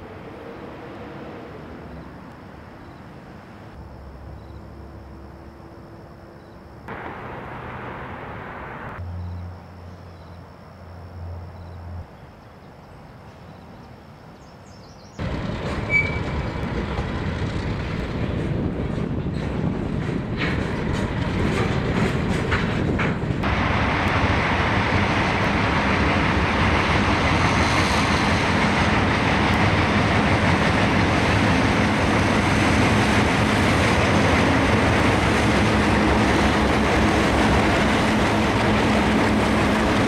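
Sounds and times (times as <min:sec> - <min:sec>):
freight train rolling past: 0:00.0 - 0:09.4, 0:15.2 - 0:40.0.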